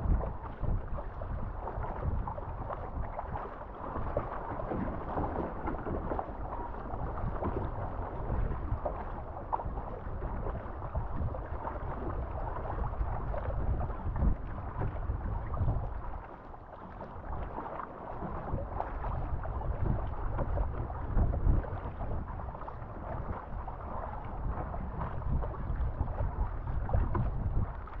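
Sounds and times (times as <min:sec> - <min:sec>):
wind gusting on microphone: 0:00.0 - 0:16.1, 0:18.3 - 0:28.0
water splashing against hull: 0:00.0 - 0:28.0.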